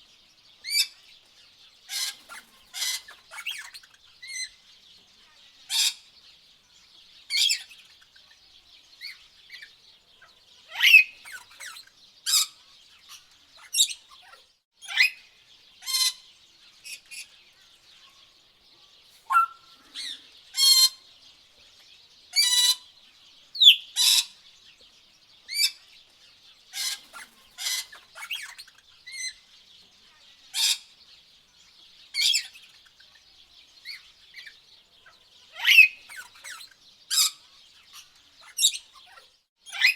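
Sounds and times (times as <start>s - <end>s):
bird chirps and calls: 0.0s - 39.9s
high-pitched bird chorus: 0.0s - 39.9s.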